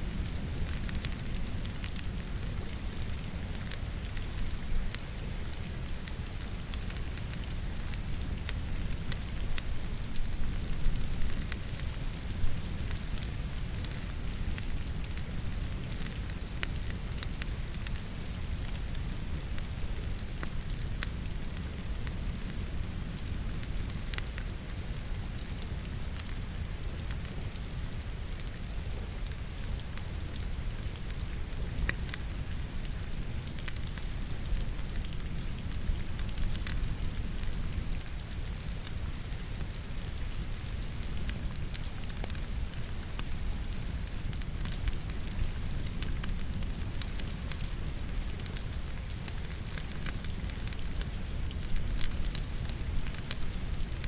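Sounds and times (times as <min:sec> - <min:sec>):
steady rain: 0:00.0 - 0:54.0
wood fire crackling and popping: 0:00.0 - 0:54.0.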